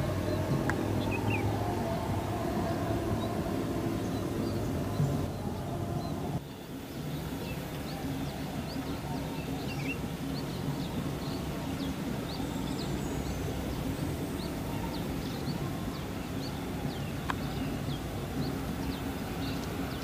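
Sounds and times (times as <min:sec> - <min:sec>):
diesel locomotive engine humming: 0:00.0 - 0:20.0.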